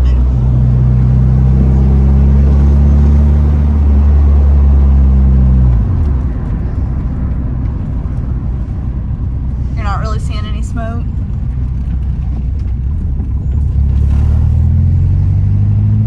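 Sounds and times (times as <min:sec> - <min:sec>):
car engine running: 0:00.0 - 0:16.0
road rumble: 0:00.0 - 0:16.0.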